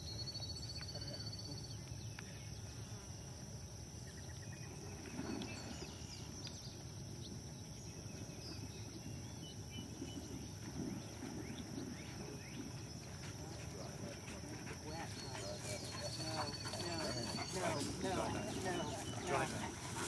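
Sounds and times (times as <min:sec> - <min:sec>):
insect chorus buzzing: 0:00.0 - 0:20.0.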